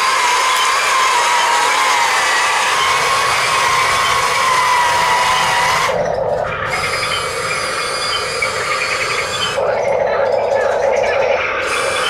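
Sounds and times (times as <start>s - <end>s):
small electric motors whining: 0.0s - 9.7s, 11.5s - 12.0s.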